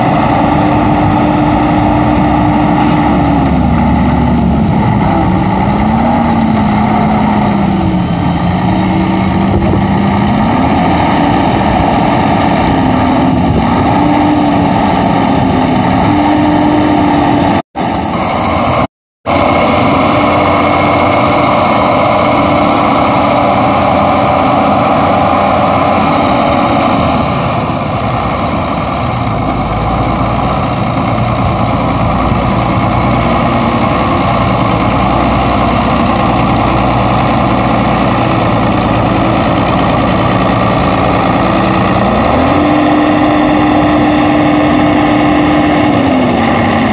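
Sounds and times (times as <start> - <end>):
wheel loader diesel engine working: 0.0 - 46.9.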